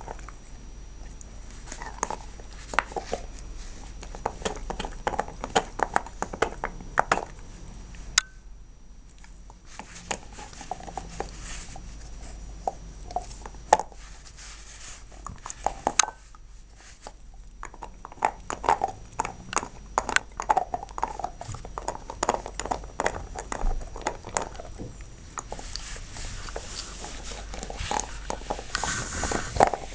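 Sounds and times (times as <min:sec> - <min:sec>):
dog gnawing a bone: 0:00.0 - 0:07.6, 0:09.1 - 0:29.9.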